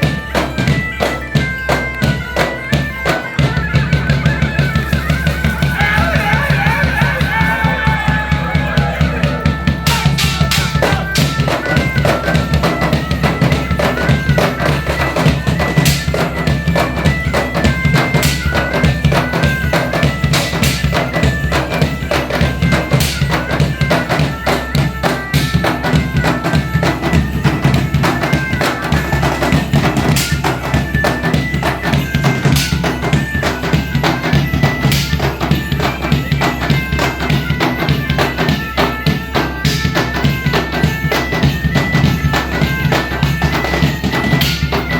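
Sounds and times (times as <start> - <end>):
bagpipe music: 0.0 - 44.9
drum beats: 0.0 - 44.9.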